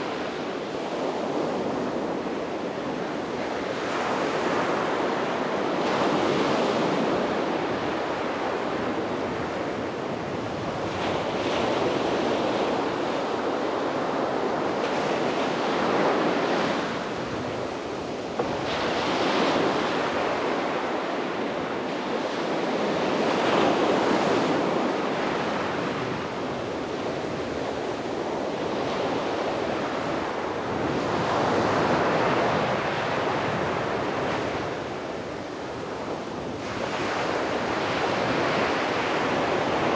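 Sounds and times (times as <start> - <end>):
sea waves breaking on beach: 0.0 - 39.9
wind on microphone: 0.0 - 39.9.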